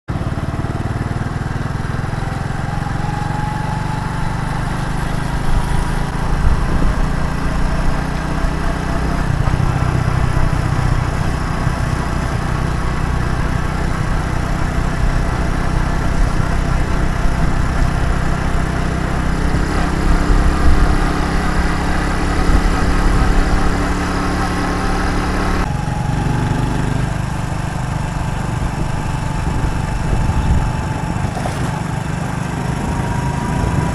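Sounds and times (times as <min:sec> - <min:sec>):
motorcycle engine rumbling: 0:00.1 - 0:33.9.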